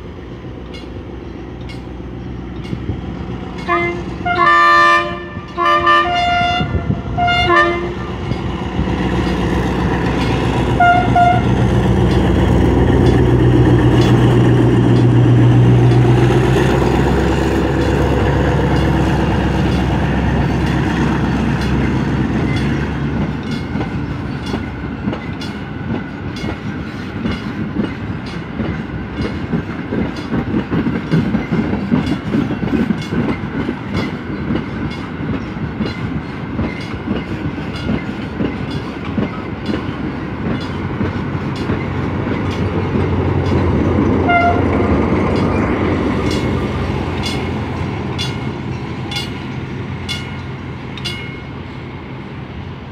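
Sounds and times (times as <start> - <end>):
diesel locomotive engine drone: 0.0 - 52.9
train wheels clicking over rail joints: 0.4 - 4.2, 8.0 - 51.5.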